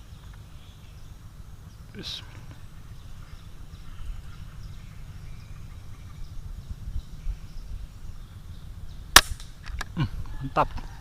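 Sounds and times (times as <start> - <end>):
faint bird chirps: 0.0 - 9.1
low rumble on microphone: 0.0 - 11.0.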